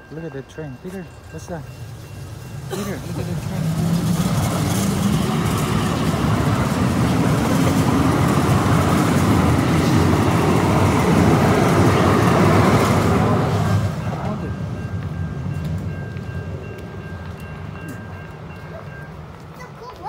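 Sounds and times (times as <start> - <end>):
light-rail train passing: 0.0 - 20.0.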